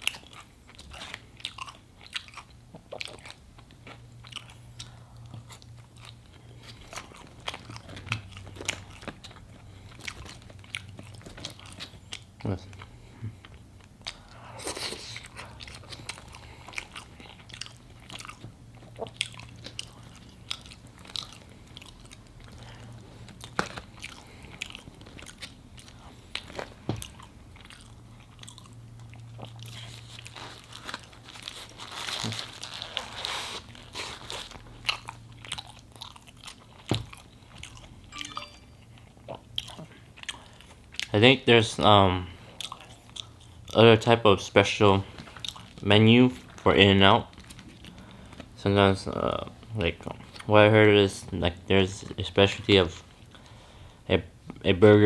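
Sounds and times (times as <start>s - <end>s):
eating with wet chewing: 0.0s - 41.3s, 42.2s - 50.6s.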